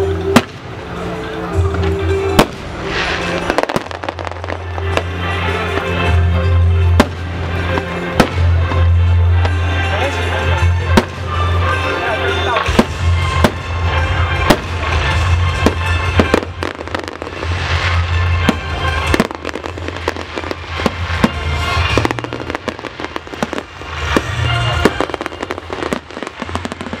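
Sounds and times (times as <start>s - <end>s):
fireworks bangs and crackles: 0.0s - 27.0s
loud music with bass: 0.0s - 27.0s.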